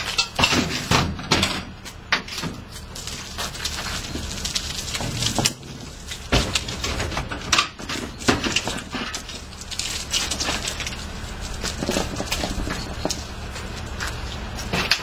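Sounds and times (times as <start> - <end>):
sack truck knocks and clatter: 0.0 - 15.0.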